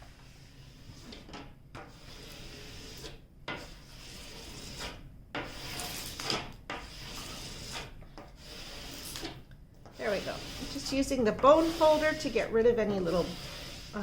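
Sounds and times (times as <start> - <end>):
bone folder rubbing paper: 1.8 - 14.0.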